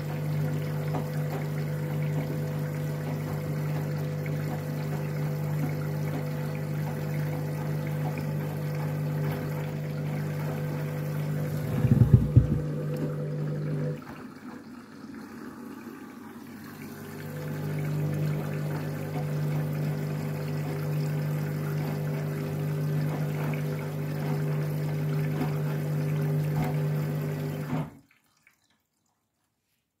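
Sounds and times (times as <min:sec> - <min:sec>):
washing machine hum: 0:00.0 - 0:28.2
water running into drum: 0:00.0 - 0:29.2.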